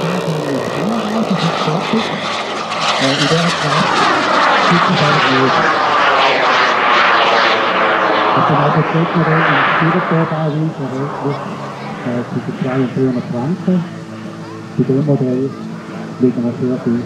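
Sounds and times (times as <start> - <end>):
jet turbine whining overhead: 0.0 - 17.0.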